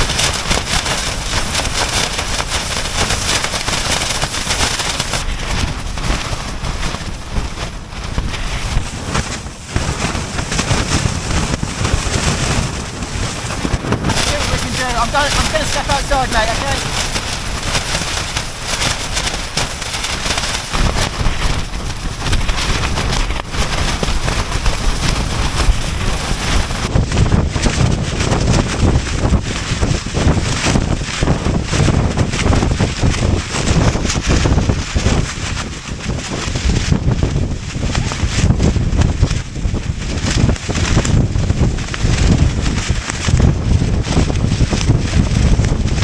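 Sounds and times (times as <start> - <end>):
blizzard wind buffeting microphone: 0.0 - 46.0.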